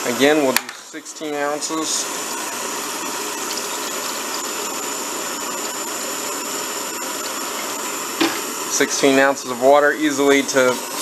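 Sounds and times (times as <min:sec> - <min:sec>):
camping stove hissing: 0:00.0 - 0:11.0
water pouring into a pot: 0:00.0 - 0:11.0.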